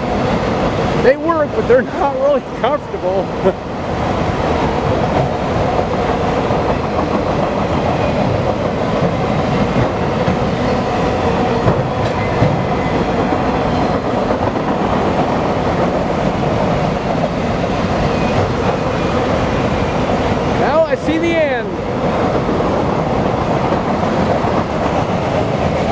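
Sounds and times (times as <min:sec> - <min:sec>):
train wheels rumbling on rails: 0:00.0 - 0:25.9
wheels clacking over rail joints: 0:00.0 - 0:25.9.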